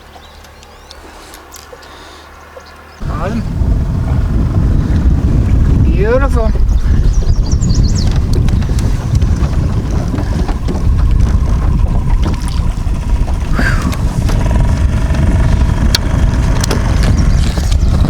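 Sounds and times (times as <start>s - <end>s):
wind buffeting the microphone: 3.0s - 18.0s.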